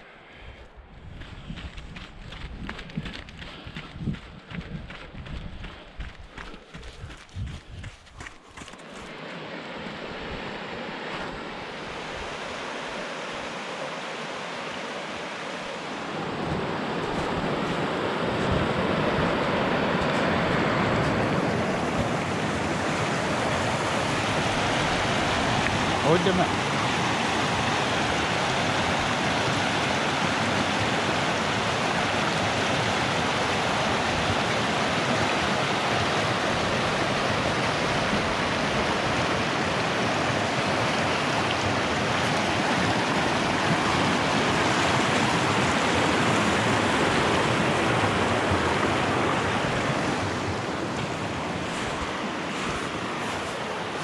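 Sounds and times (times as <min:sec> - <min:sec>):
creek rushing over rocks: 0:06.0 - 0:54.0.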